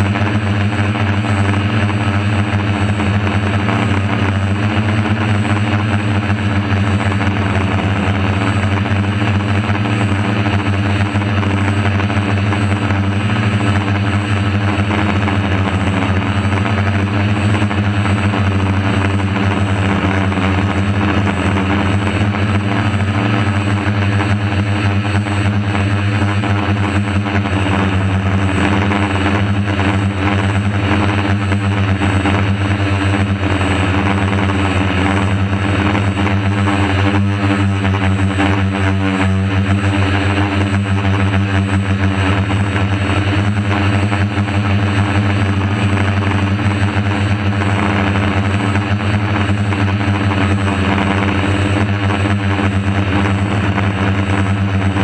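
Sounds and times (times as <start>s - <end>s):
drone motors buzzing: 0.0s - 55.0s.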